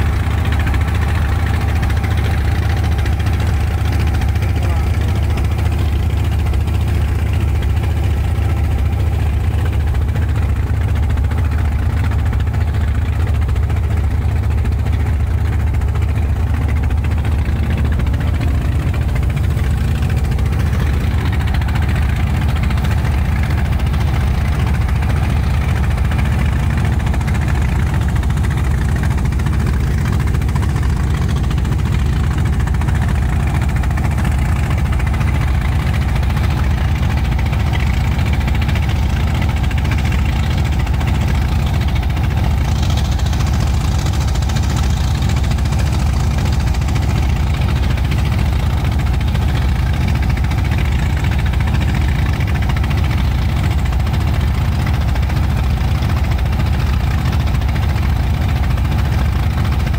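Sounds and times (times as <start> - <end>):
motor boat engine droning: 0.0 - 59.9.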